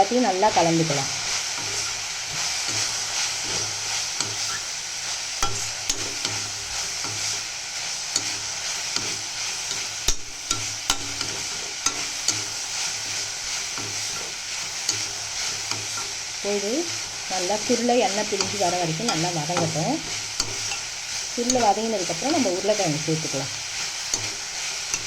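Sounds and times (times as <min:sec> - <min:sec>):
vegetables sizzling in oil: 0:00.0 - 0:25.0
spoon scraping a pan: 0:01.2 - 0:25.0.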